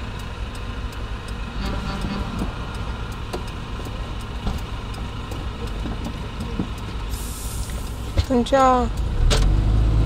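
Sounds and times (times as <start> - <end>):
light ticking: 0.0 - 9.2
car engine hum: 0.0 - 10.0.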